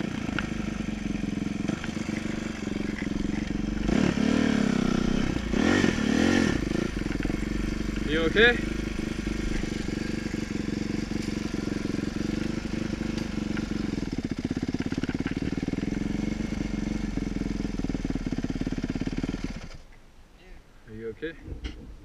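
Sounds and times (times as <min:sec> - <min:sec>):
dirt bike engine idling: 0:00.0 - 0:19.9.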